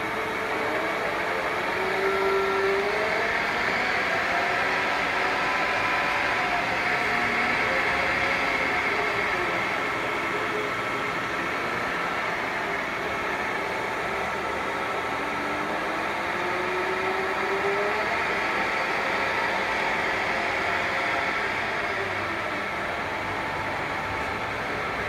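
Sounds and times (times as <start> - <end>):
milling machine whirring: 0.0 - 25.0.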